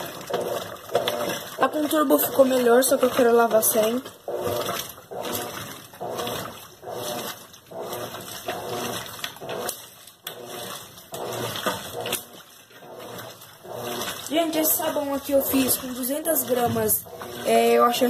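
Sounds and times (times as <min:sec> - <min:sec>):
washing machine mechanical whine: 0:00.0 - 0:18.0
water sloshing: 0:00.0 - 0:18.0.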